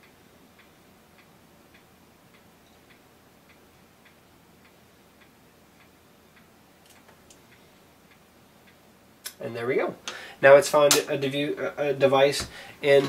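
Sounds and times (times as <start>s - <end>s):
faint regular ticking: 0.0s - 12.9s.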